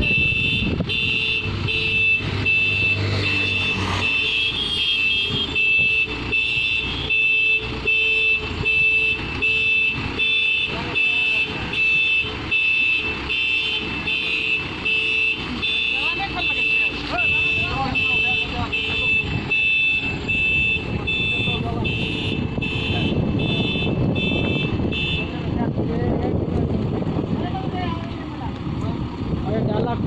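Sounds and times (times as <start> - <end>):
truck warning beeper: 0.0 - 25.3
truck engine running: 0.0 - 30.0.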